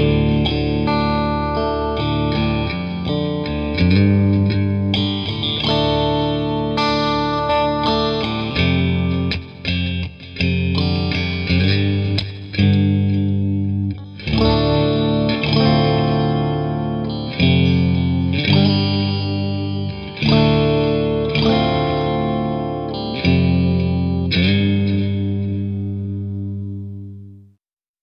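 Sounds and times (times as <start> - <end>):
electric guitar chords: 0.0 - 27.6.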